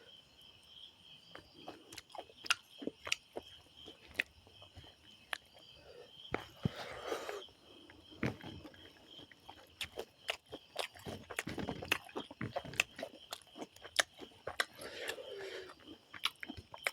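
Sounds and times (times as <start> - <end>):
insects chirping: 0.0 - 16.9
person chewing food: 1.3 - 16.9.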